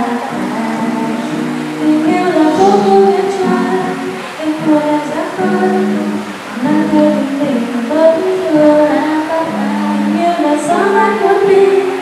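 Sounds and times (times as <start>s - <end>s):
acoustic guitar: 0.0s - 12.0s
girl singing into a microphone: 0.0s - 12.0s.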